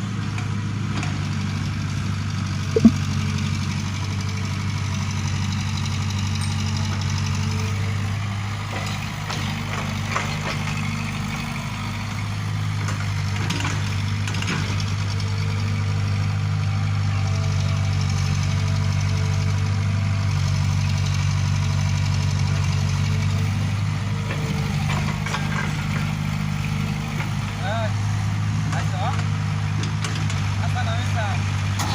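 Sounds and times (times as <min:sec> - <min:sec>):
large vehicle engine running: 0:00.0 - 0:31.9.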